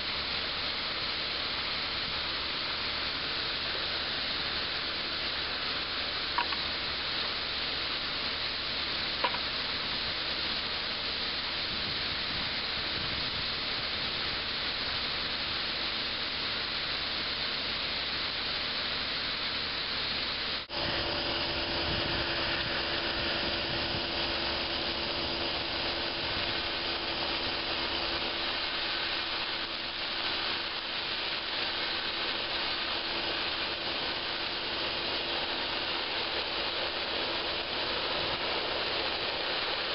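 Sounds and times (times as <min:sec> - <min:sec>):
sandblaster nozzle hissing: 0:00.0 - 0:39.9.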